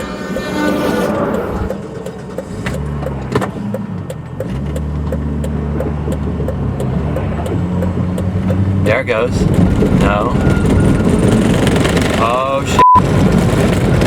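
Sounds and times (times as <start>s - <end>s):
regular ticking: 0.0s - 12.1s
car engine humming: 0.0s - 14.0s.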